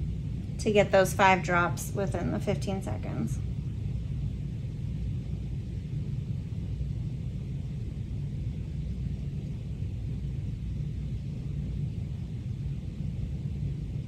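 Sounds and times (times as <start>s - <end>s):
low rumble with faint hiss: 0.0s - 14.0s.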